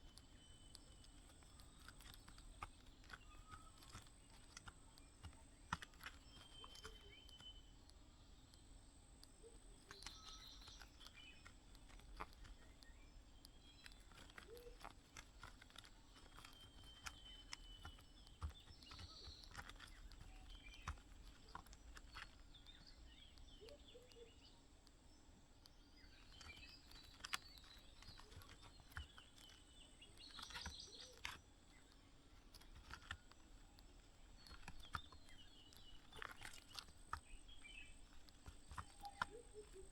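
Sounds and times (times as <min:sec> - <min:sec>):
faint high bird chirps: 0:00.0 - 0:25.0, 0:25.6 - 0:39.9
soft clicks and scratches: 0:00.0 - 0:39.9.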